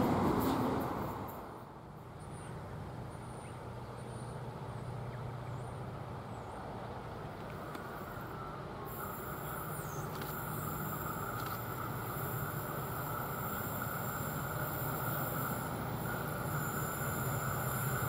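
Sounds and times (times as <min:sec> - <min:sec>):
faint engine hum: 0:00.0 - 0:18.0
freight train rumbling by: 0:00.0 - 0:18.0.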